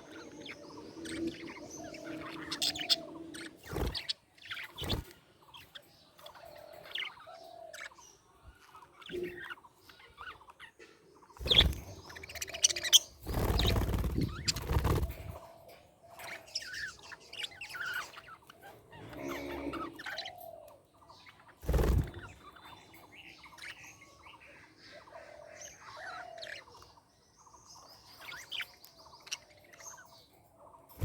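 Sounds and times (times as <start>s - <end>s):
budgerigars chirping: 0.0s - 15.3s, 16.2s - 30.3s.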